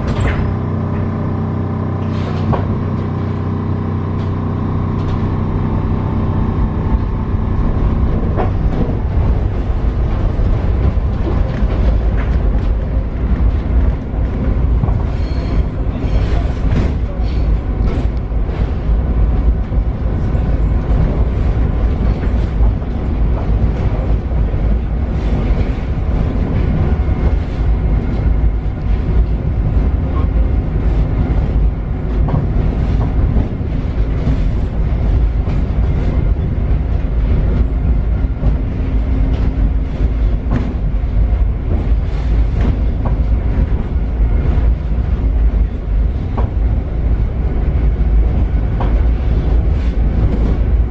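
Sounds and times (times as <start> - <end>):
clicks and knocks from track: 0.0 - 1.3, 2.0 - 6.0, 6.8 - 50.9
train wheels rumbling on rail: 0.0 - 50.9.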